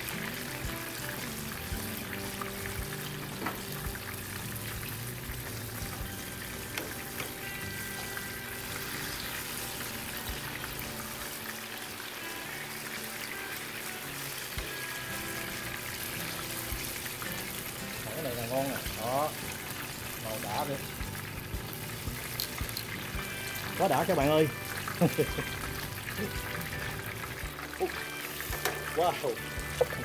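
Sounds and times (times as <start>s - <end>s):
hot oil sizzling: 0.0s - 30.0s.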